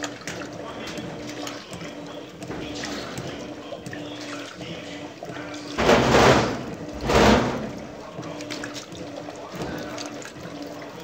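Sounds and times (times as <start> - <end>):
washing machine motor hum: 0.0 - 11.0
water churning: 0.0 - 11.0
water sloshing: 0.0 - 11.0.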